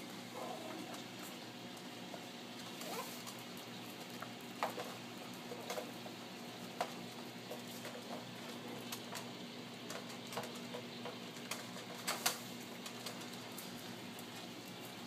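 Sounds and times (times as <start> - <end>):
puppies' claws clicking and tapping: 2.6 - 15.0.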